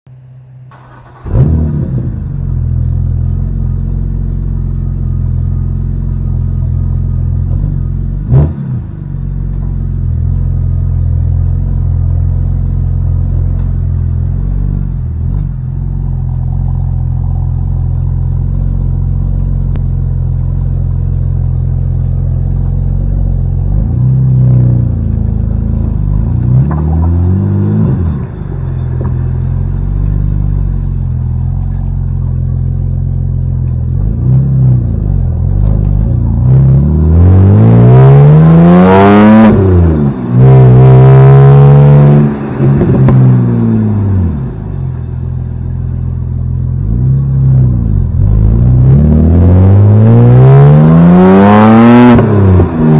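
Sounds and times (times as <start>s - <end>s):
car engine starting and idling: 0.1s - 52.9s
engine revving blips: 0.8s - 9.6s, 12.9s - 52.9s.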